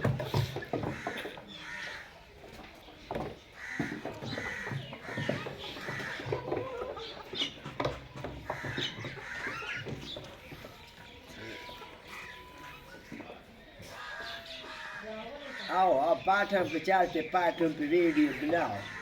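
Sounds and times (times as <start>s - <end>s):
chickens clucking and squawking: 0.0s - 19.0s.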